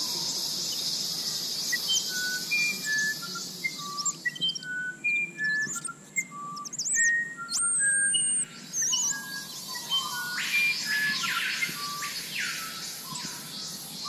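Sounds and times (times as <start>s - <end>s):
birds whistling: 0.0s - 14.0s
high warbling bird trills: 0.0s - 14.0s.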